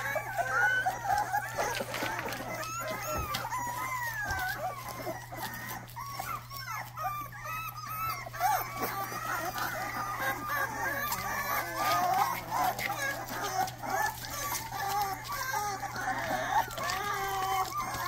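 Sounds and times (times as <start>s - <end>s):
puppies whining and squealing: 0.0s - 18.0s.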